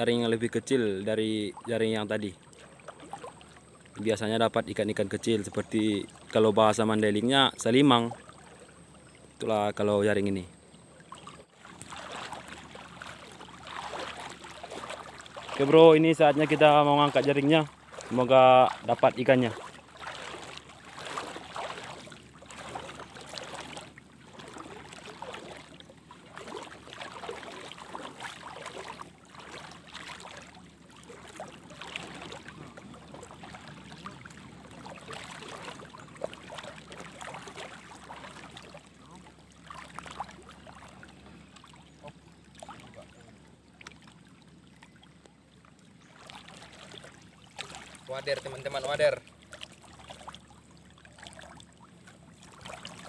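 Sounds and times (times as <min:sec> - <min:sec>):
water splashing and dripping: 0:00.0 - 0:09.2, 0:09.8 - 0:53.0.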